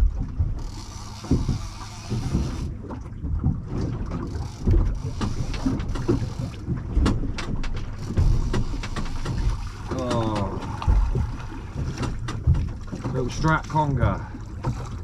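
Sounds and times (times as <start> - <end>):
water slapping against hull: 0.0 - 15.0
wind buffeting microphone: 0.0 - 15.0.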